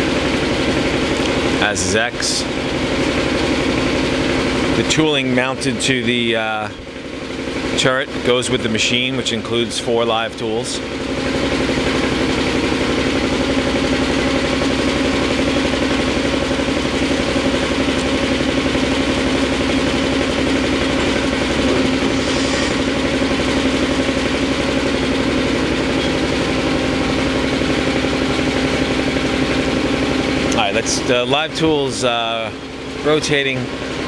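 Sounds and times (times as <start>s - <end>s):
air compressor motor hum: 0.0s - 34.0s
lathe tool turret whir: 0.0s - 34.0s.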